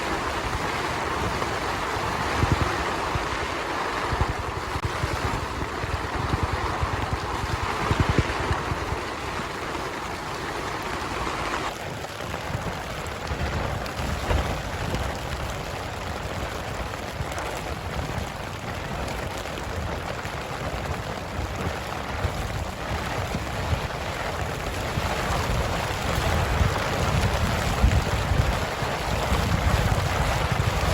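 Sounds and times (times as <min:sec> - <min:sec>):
heavy rain on a tent: 0:00.0 - 0:30.9
wind buffeting microphone: 0:00.0 - 0:30.9.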